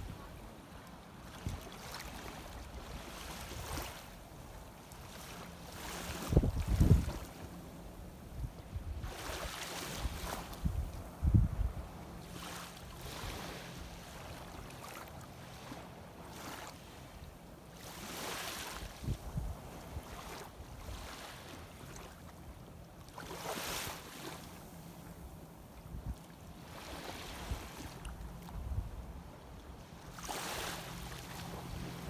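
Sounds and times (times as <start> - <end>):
small waves washing: 0.0 - 7.7, 9.0 - 10.7, 11.8 - 32.0.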